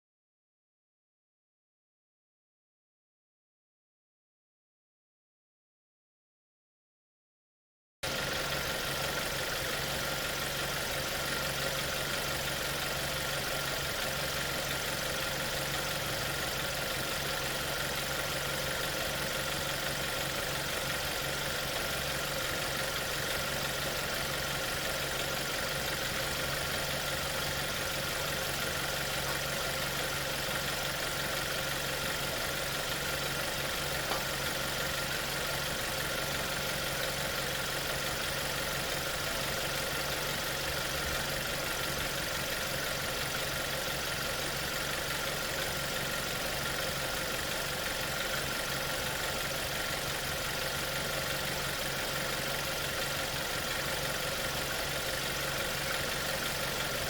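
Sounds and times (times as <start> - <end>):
car engine idling: 8.0 - 57.0.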